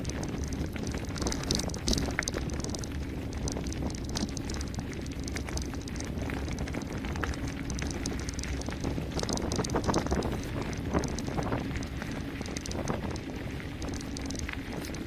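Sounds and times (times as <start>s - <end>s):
bike rattling and clicking: 0.0s - 15.0s
tyres rumbling over gravel: 0.0s - 15.0s
wind buffeting microphone: 0.0s - 15.0s.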